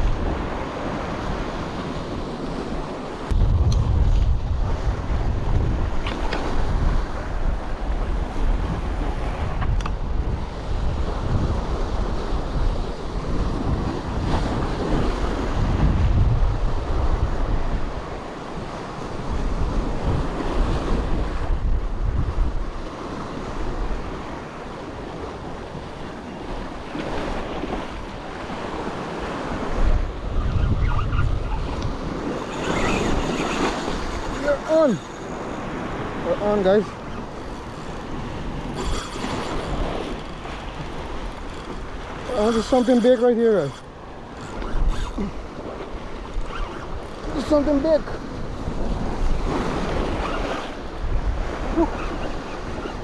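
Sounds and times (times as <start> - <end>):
waves washing on shore: 0.0 - 53.0
wind gusting on microphone: 0.0 - 53.0.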